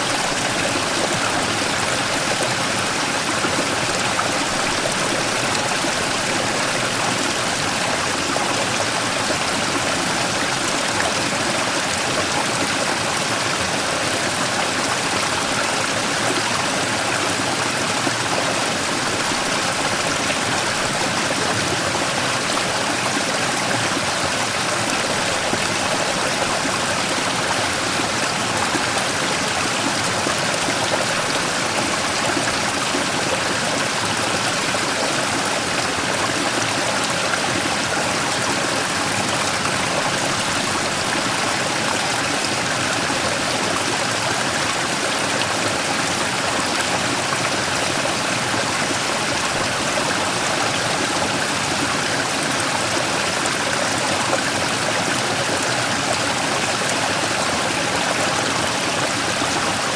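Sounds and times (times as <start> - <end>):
stream rushing over rock: 0.0 - 59.9.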